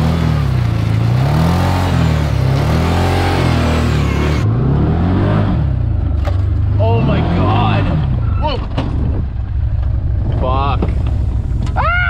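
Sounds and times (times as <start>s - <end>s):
engine revving: 0.0s - 11.8s.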